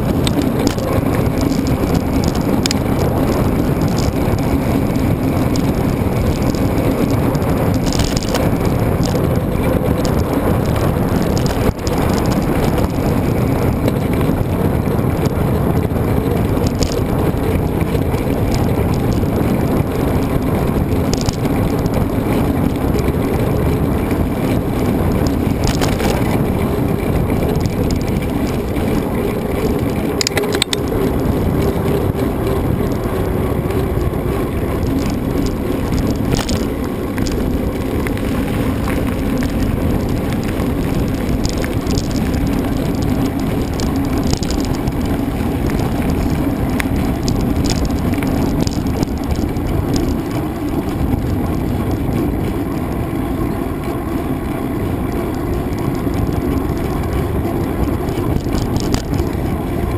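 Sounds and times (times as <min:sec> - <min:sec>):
bike rolling noise: 0:00.0 - 0:59.9
wind on microphone: 0:00.0 - 0:59.9.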